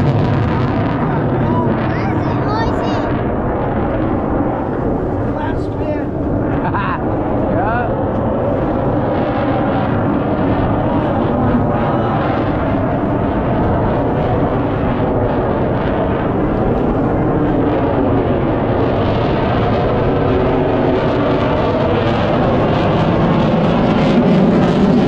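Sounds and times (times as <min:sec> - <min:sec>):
loud engine drone: 0:00.0 - 0:25.0.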